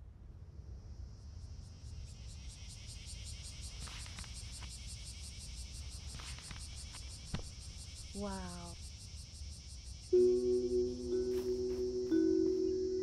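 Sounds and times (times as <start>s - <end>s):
insects chirping: 0.1s - 13.0s.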